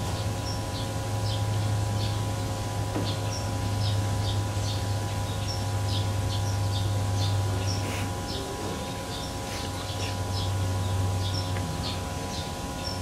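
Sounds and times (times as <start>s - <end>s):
low mechanical hum: 0.0s - 13.0s
small birds chirping: 0.0s - 13.0s.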